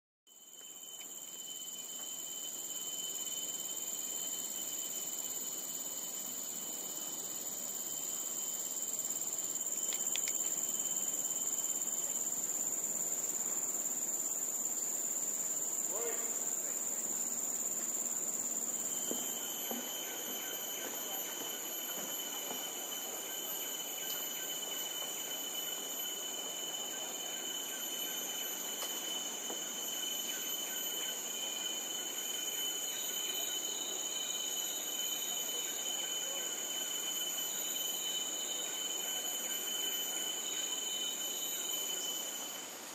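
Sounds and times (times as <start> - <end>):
insects buzzing: 0.3 - 42.9.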